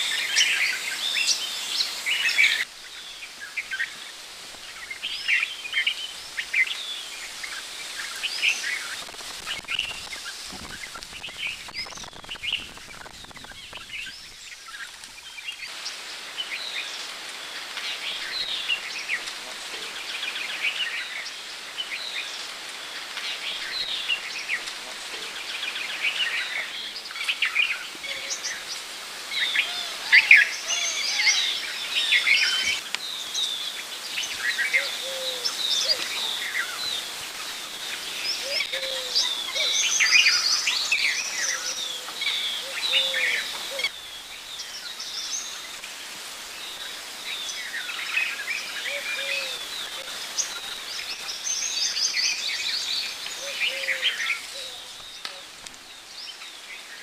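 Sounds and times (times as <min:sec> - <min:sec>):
birds chirping and trilling: 0:00.0 - 0:57.0
outdoor background hiss: 0:00.0 - 0:57.0.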